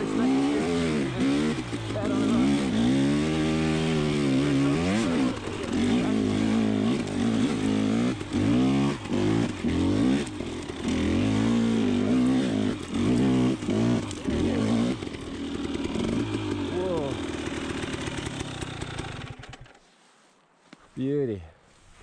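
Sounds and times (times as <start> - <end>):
dirt bike engine revving: 0.0 - 19.8.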